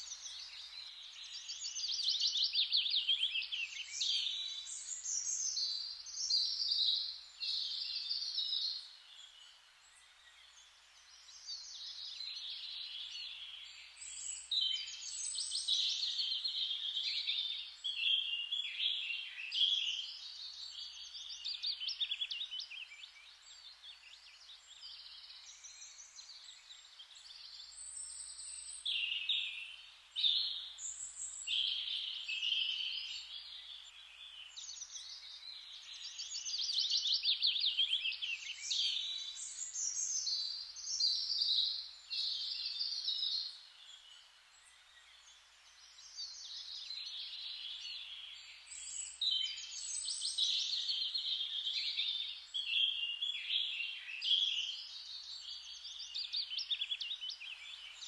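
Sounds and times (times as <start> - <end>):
faint steady hiss: 0.0 - 58.0
songbirds trilling and chirping: 0.0 - 58.0.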